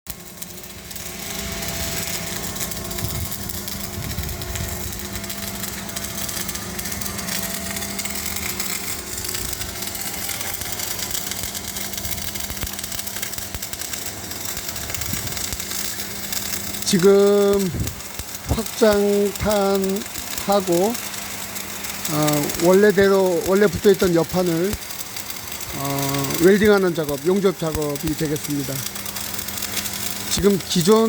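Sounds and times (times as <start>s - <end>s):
machine hum: 0.1s - 31.0s
welding arc crackling: 0.1s - 31.0s.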